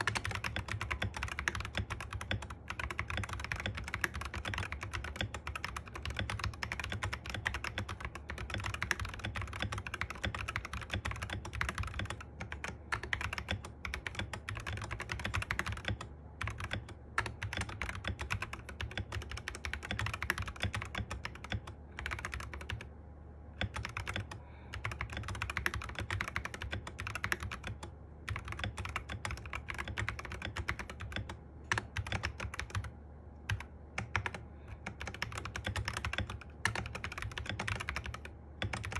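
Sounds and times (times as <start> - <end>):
mechanical keyboard typing: 0.0 - 22.9, 23.6 - 38.9.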